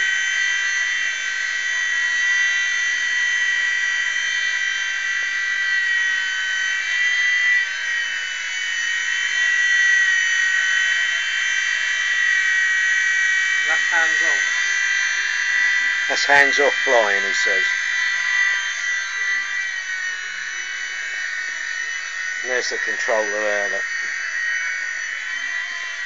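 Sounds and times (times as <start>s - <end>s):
model helicopter whine: 0.0s - 26.0s.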